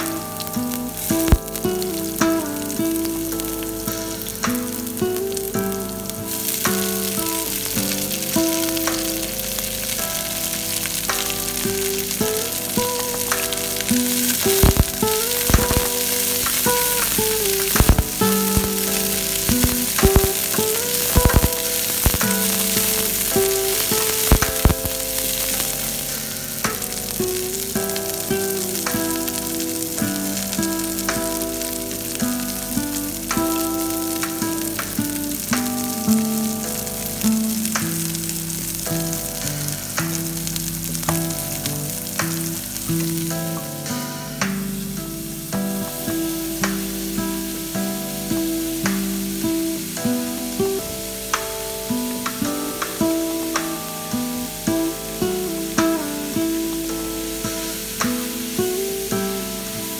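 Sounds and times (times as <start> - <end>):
garlic and cabbage sizzling in oil: 0.0 - 59.9
soft melody: 0.0 - 59.9.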